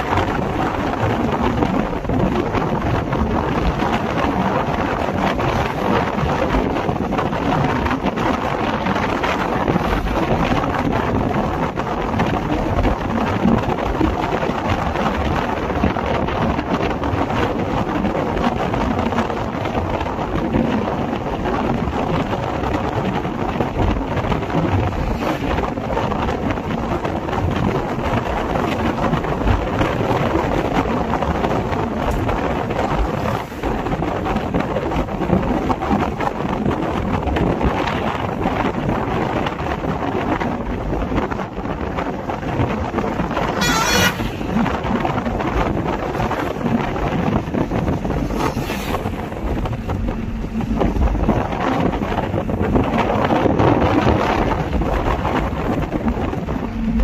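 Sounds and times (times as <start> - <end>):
vehicle rumbling on rough road: 0.0 - 57.0
wind buffeting microphone: 0.0 - 57.0.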